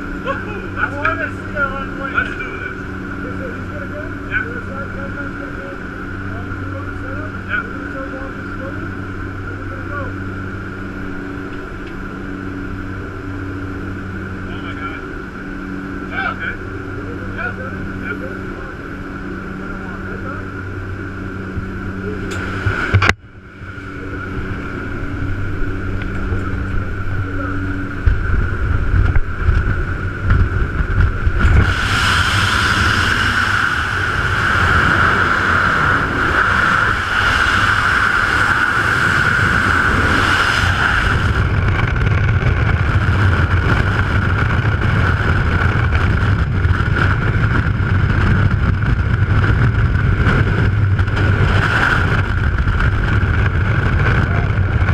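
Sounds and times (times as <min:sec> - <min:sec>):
aircraft engine drone: 0:00.0 - 0:54.9
freefall wind rushing and buffeting: 0:00.0 - 0:54.9.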